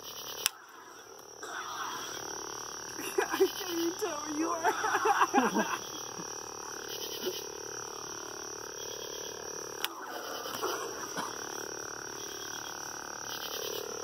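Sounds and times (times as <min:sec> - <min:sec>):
night insects chirring: 0:00.0 - 0:14.0.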